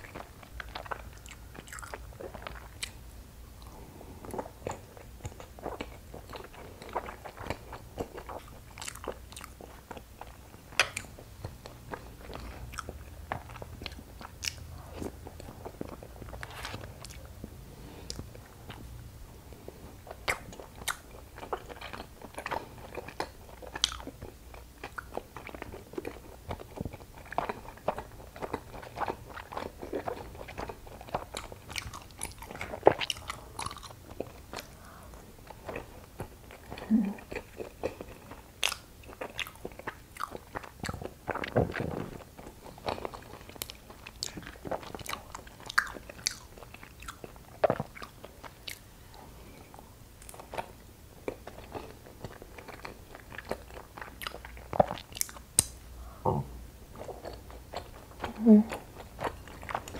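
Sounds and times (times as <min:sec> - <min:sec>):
chewing sticky rice cake: 0:00.0 - 0:03.0, 0:03.6 - 0:18.9, 0:19.5 - 0:55.8, 0:56.9 - 0:59.9.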